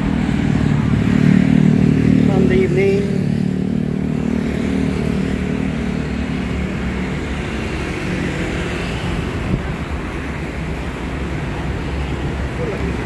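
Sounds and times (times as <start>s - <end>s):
cars passing: 0.0s - 13.0s
motorbikes passing: 0.0s - 13.0s.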